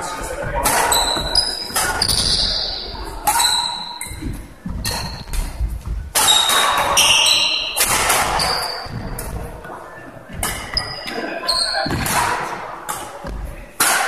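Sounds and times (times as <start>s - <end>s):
shoes squeaking on wooden floor: 0.1s - 12.1s
rackets hitting shuttlecock: 0.6s - 9.4s, 10.3s - 14.0s.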